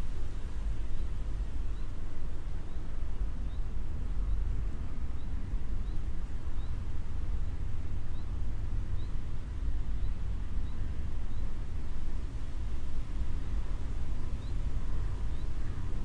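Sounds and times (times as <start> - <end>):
steady low city rumble: 0.0 - 16.0.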